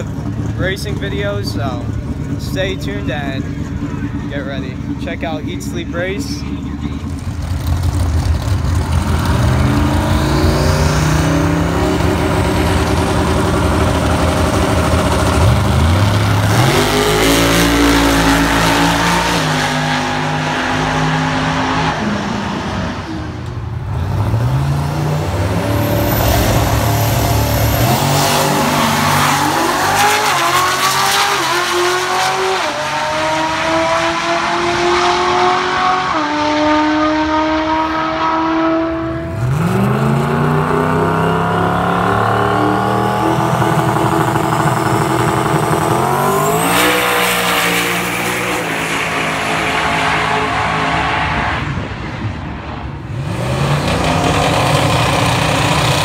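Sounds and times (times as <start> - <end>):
drag racing car engines revving: 0.0 - 56.0.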